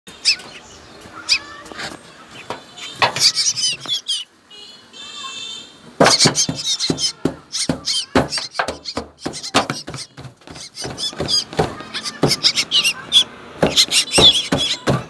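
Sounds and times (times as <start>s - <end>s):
nestlings chirping: 0.1s - 4.4s, 6.0s - 15.0s.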